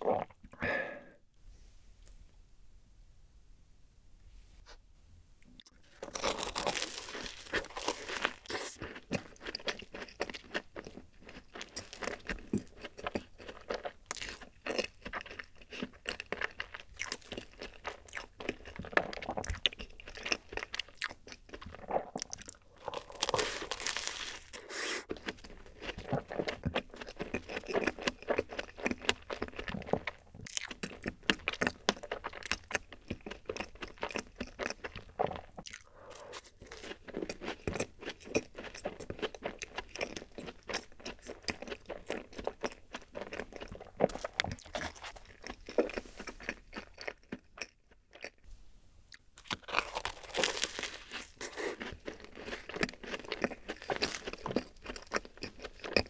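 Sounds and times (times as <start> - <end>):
crunching and chewing: 5.5 - 56.0.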